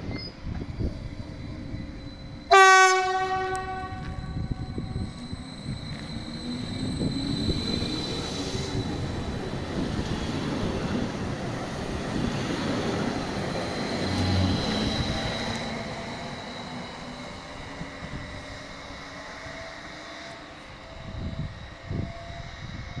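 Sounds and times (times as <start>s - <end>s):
electric train accelerating: 0.0s - 23.0s.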